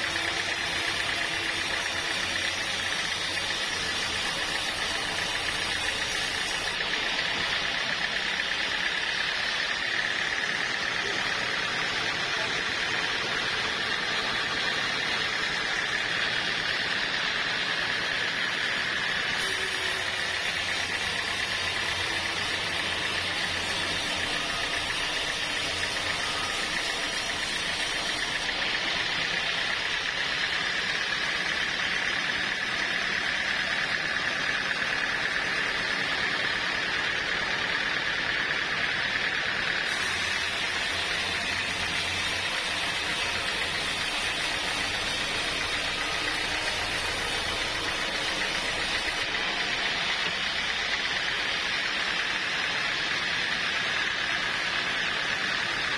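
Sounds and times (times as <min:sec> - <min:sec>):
sawmill saw whining: 0:00.0 - 0:55.9.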